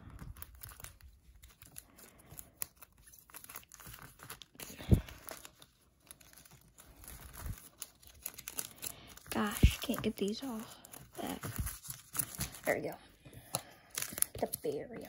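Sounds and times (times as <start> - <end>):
plastic sleeves rustling: 0.0 - 15.0.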